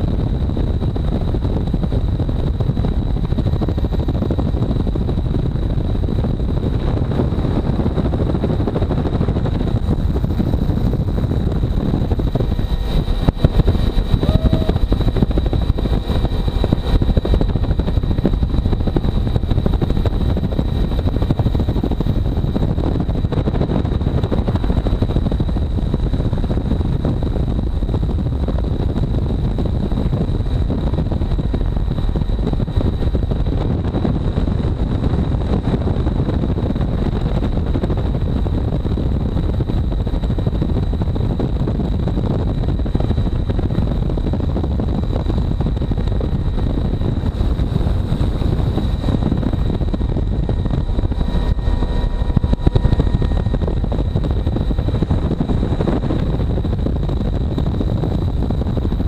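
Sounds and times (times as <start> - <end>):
helicopter rotor and engine rush: 0.0 - 59.0
high whine: 0.0 - 59.0.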